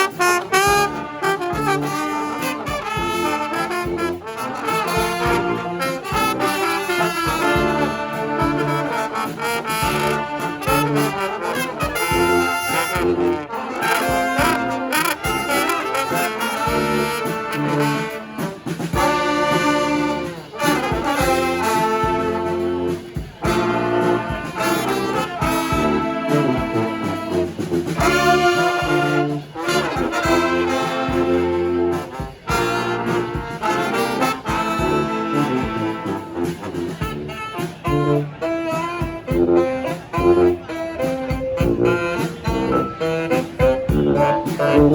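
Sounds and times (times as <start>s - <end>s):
brass band playing: 0.0s - 44.9s.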